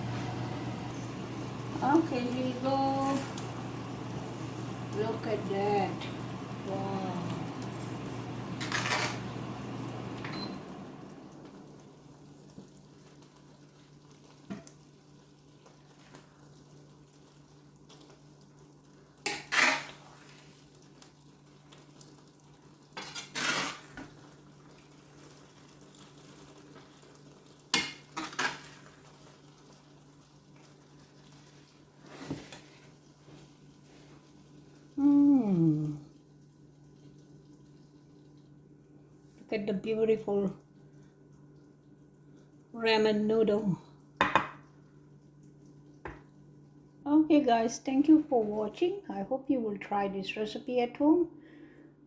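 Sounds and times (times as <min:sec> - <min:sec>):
faint steady hum: 0:00.0 - 0:19.3, 0:23.9 - 0:52.0.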